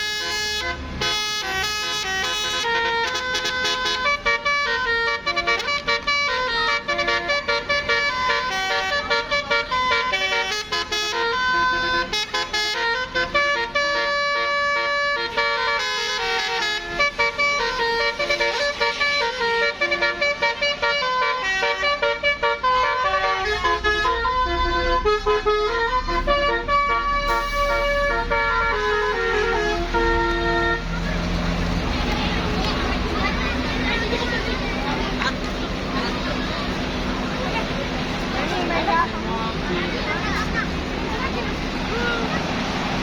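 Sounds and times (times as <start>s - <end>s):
multi-tone bus horn melody: 0.0s - 43.0s.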